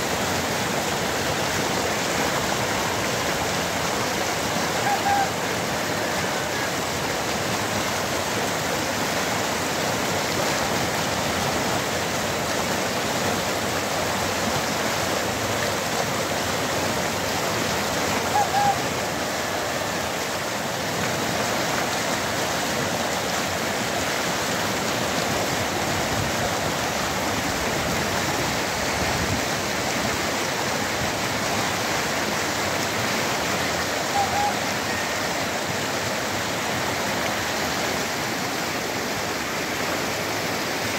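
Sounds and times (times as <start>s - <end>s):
floodwater rushing over kerb: 0.0s - 40.9s.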